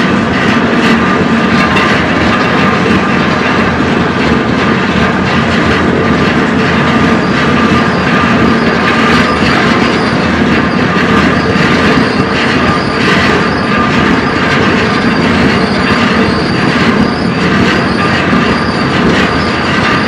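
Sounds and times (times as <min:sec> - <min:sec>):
train wheels rolling and rattling: 0:00.0 - 0:20.0.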